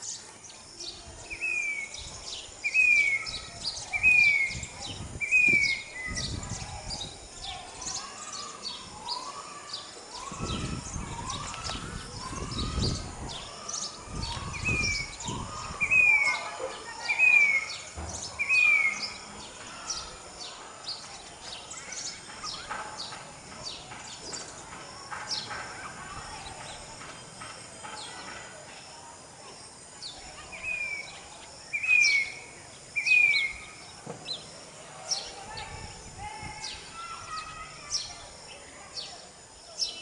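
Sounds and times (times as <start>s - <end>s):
cuckoo calling: 0.0s - 35.8s
birds chirping: 0.0s - 40.0s.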